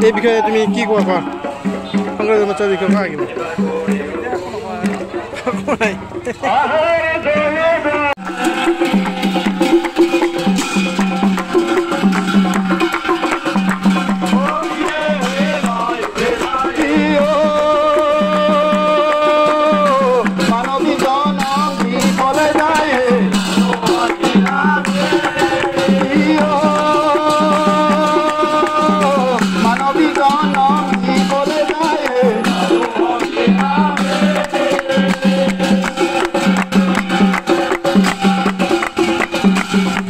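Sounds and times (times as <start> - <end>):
percussion and rattles: 0.0 - 6.7, 7.3 - 40.0
group clapping: 4.8 - 5.7, 8.2 - 40.0.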